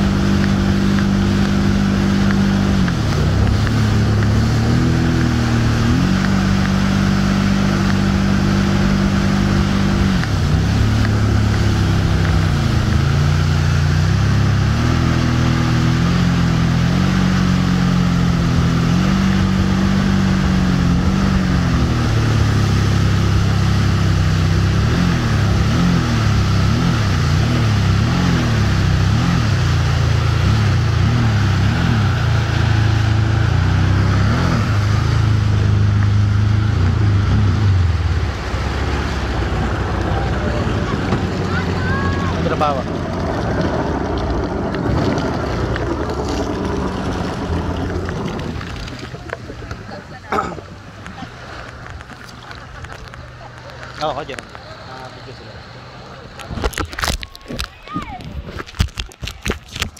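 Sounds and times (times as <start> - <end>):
churning wake: 0.0 - 59.9
motorboat engine running: 0.0 - 59.9
wind: 0.0 - 59.9.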